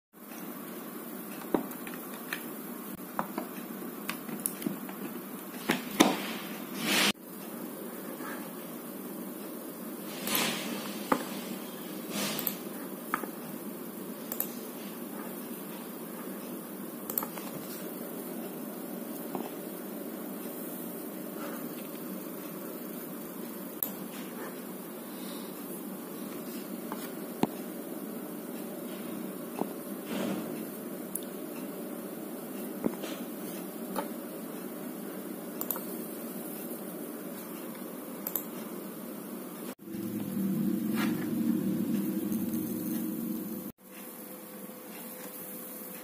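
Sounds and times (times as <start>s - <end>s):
room noise hiss and hum: 0.2s - 46.0s.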